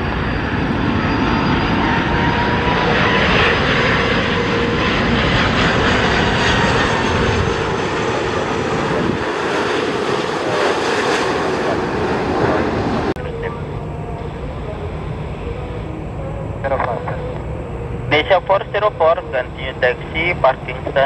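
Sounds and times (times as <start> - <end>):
airliner engines roaring: 0.0 - 21.0
faint engine whine: 0.0 - 21.0.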